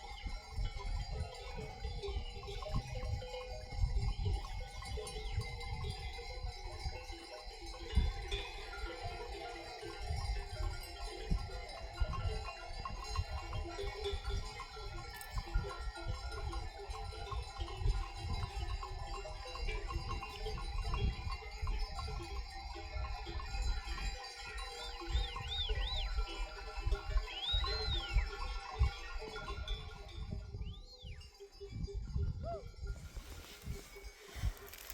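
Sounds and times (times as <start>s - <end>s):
animal bells clanking: 0.0s - 34.9s.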